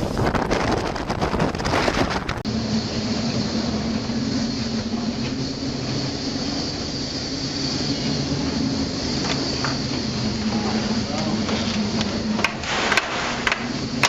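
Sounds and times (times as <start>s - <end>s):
ship engines droning: 0.0s - 14.0s.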